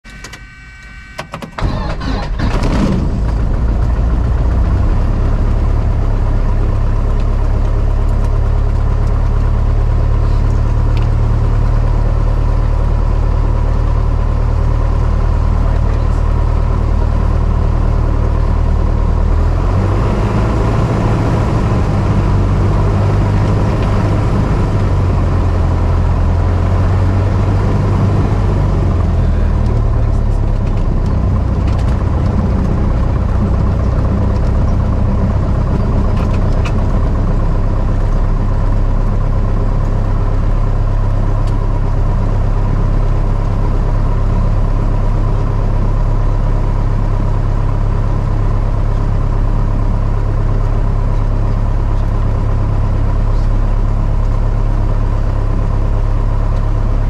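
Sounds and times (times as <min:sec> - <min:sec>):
small plane engine starting and running: 0:00.0 - 0:57.0.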